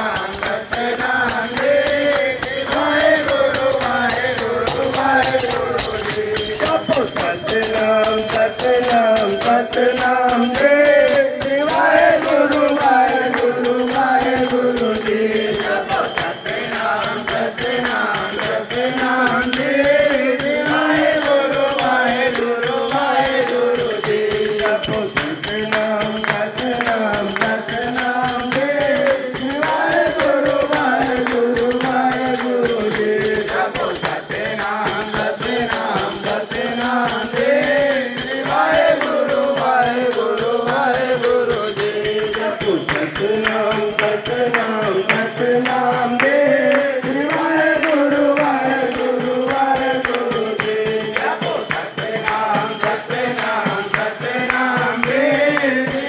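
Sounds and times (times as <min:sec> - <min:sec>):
hand clapping: 0:00.0 - 0:56.0
jingling percussion: 0:00.0 - 0:56.0
men chanting in unison: 0:00.0 - 0:56.0.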